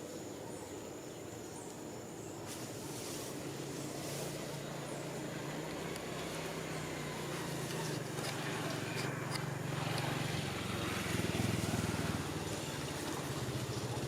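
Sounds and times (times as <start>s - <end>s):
small engine humming: 2.7s - 14.0s.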